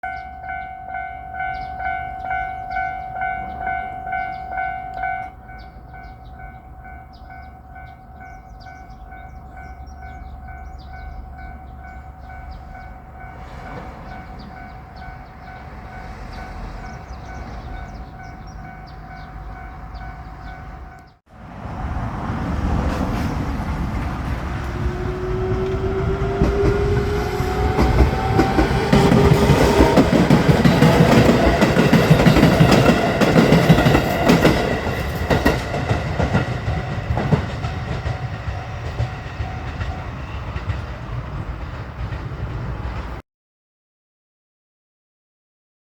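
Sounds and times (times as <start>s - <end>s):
railroad crossing bell ringing: 0.0s - 21.2s, 24.4s - 41.4s
rising whine of train: 0.0s - 43.2s
electric train passing: 0.2s - 43.2s.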